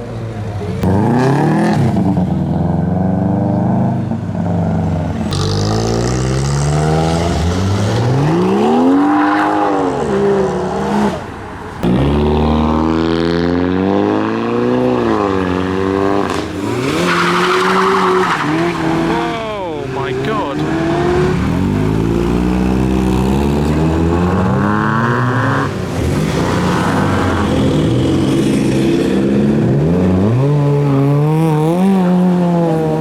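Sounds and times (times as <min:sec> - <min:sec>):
car engines revving and accelerating: 0:00.0 - 0:33.0.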